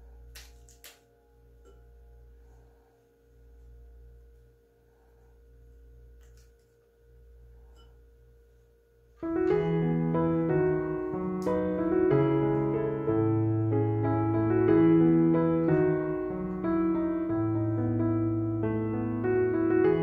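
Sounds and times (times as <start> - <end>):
slow piano music: 0.0 - 8.5, 9.2 - 20.0
faint steady hum: 0.0 - 20.0.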